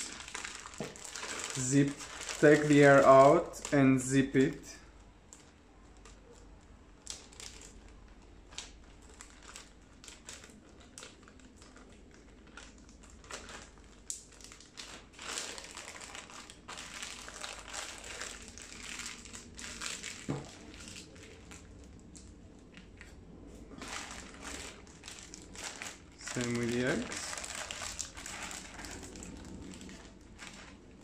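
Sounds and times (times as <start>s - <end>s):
plastic bag crinkling: 0.0s - 31.0s.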